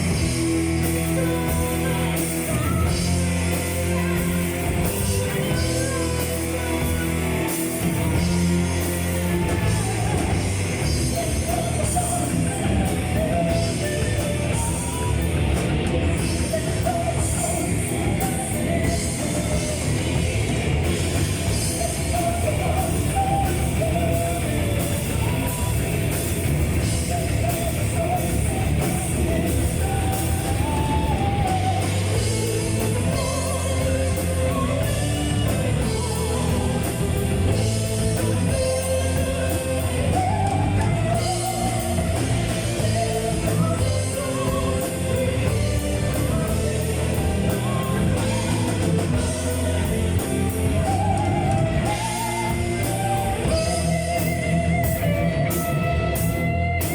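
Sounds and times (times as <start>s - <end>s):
heavy metal band playing live: 0.0s - 56.9s
person singing: 0.0s - 56.9s.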